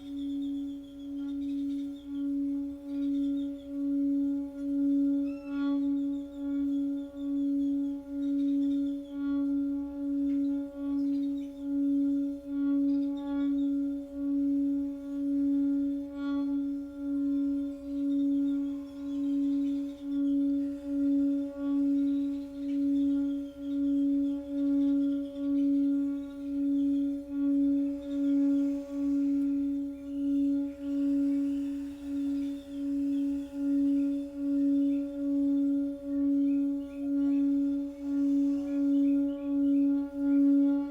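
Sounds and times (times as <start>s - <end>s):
singing bowl low tone: 0.0s - 40.9s.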